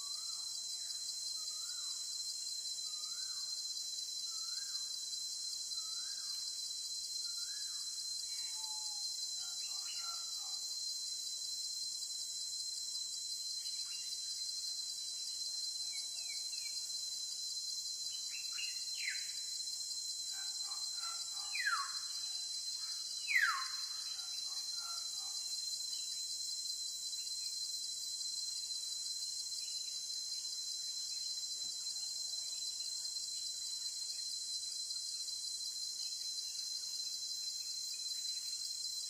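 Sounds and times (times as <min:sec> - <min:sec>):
high-pitched insect buzz: 0:00.0 - 0:39.0.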